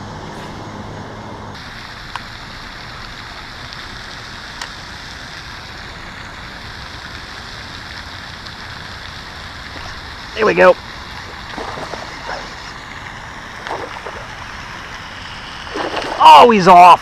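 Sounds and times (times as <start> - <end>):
water pouring from drain pipe: 1.6 - 17.0.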